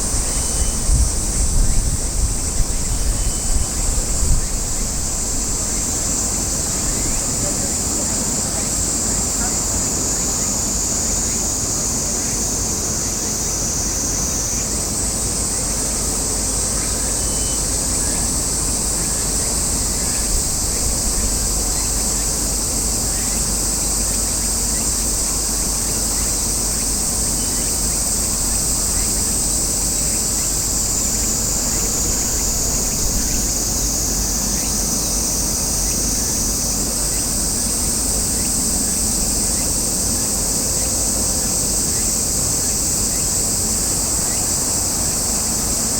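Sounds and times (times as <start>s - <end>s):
cicadas chorus: 0.0s - 45.9s.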